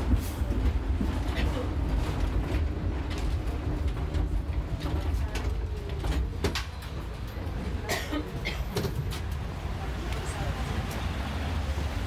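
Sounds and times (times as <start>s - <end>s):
people's voices: 0.0s - 12.0s
tram rumbling: 0.0s - 12.0s.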